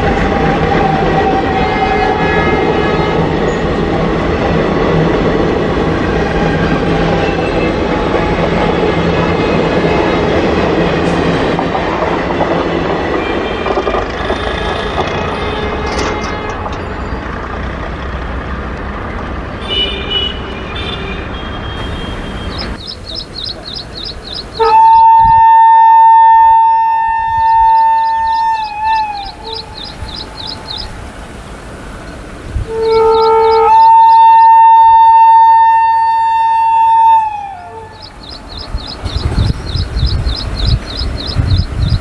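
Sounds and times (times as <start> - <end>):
train wheels rumbling on rails: 0.0 - 19.8, 21.8 - 42.0.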